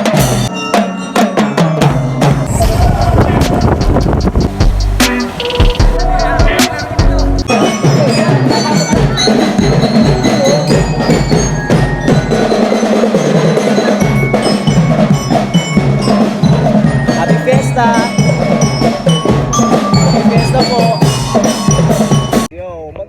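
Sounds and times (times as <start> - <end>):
music with drums and mallet percussion: 0.0 - 22.5.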